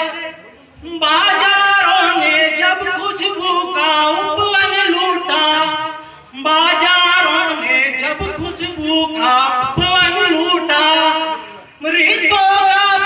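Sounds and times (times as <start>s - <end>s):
man singing into a microphone: 0.8s - 13.0s.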